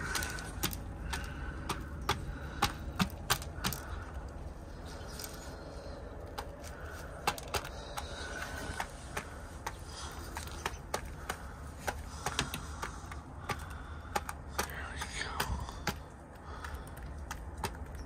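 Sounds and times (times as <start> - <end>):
beak tapping on plastic: 0.0 - 4.2, 7.2 - 18.0.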